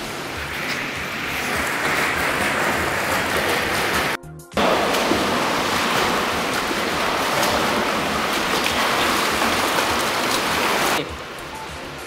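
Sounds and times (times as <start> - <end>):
indoor pool background: 0.0 - 12.0
whirlpool jets rushing and bubbling: 0.0 - 12.0.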